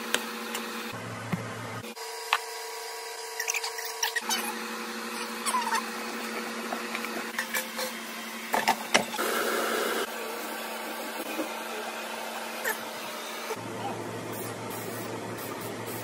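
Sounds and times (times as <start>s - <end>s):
appliance motor hum: 0.0s - 16.0s.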